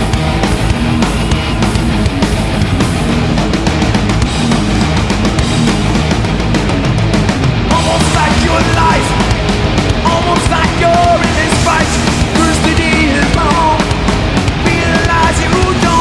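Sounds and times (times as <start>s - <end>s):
bass guitar: 0.0s - 16.0s
distorted electric guitars: 0.0s - 16.0s
fast driving drums: 0.0s - 16.0s
lead guitar line: 0.0s - 16.0s.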